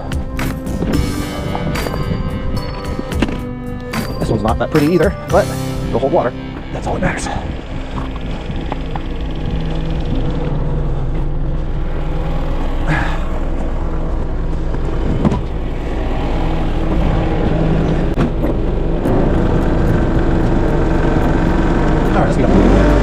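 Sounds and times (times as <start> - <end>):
tractor engine rumbling: 0.0 - 23.0.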